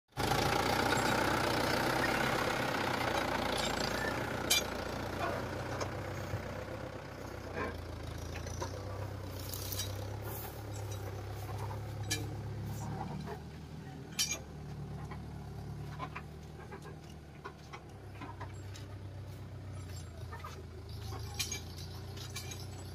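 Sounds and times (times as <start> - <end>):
tractor diesel engine running: 0.1 - 22.9.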